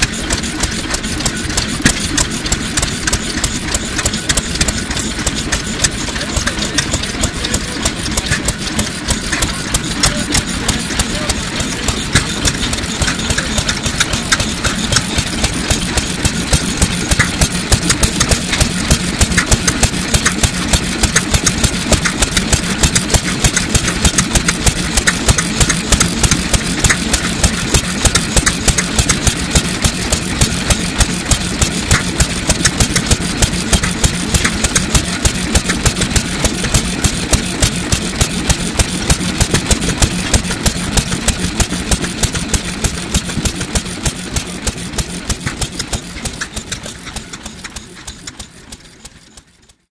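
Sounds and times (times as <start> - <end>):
stationary engine running: 0.0 - 49.9.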